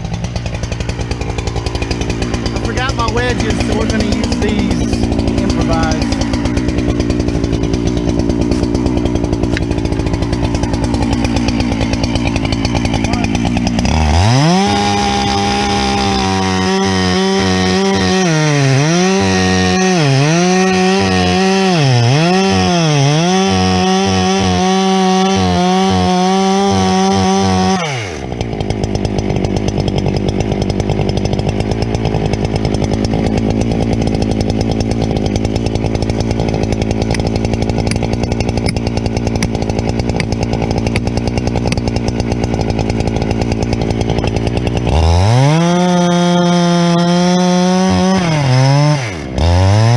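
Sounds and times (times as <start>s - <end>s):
chainsaw cutting into log: 0.0s - 49.9s.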